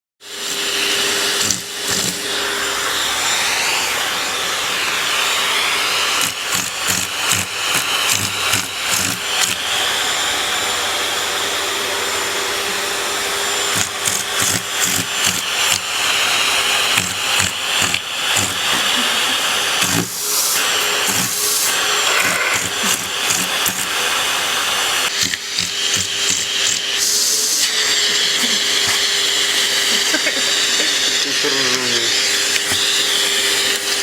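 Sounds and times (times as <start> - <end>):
vacuum cleaner running: 0.2 - 34.0.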